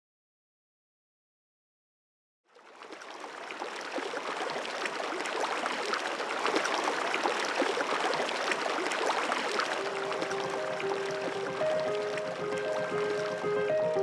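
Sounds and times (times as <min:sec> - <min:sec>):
stream babbling over stones: 0:02.6 - 0:14.0.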